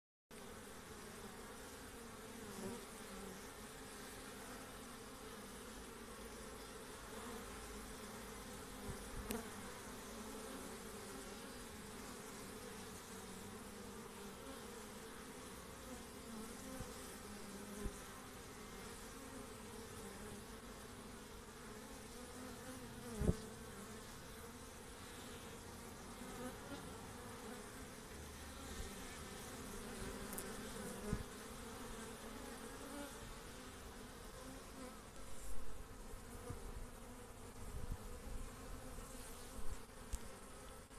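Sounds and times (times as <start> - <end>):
bee buzzing close past: 0.3 - 40.9
bees humming at a hive: 0.3 - 40.9.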